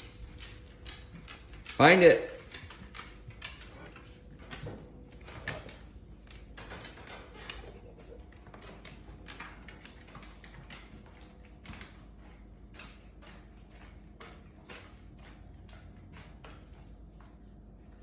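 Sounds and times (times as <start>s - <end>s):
dog claws clicking on floor: 0.0s - 18.0s.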